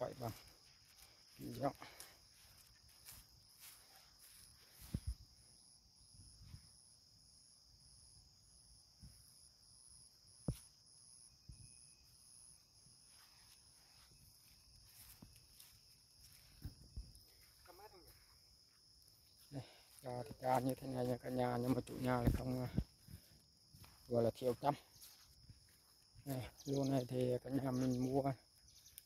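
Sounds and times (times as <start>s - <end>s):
insect chirp pulsing: 0.0s - 29.0s
insects droning: 0.0s - 29.0s.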